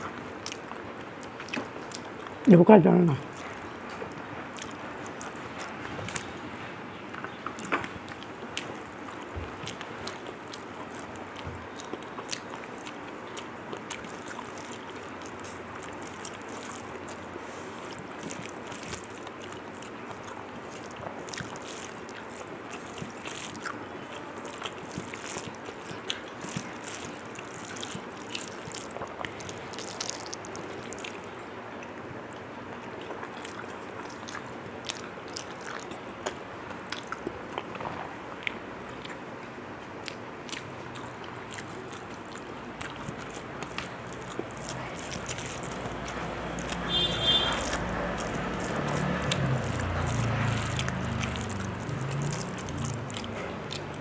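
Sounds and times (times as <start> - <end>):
person chewing food: 0.0 - 2.5, 3.2 - 54.0
background noise: 0.0 - 54.0.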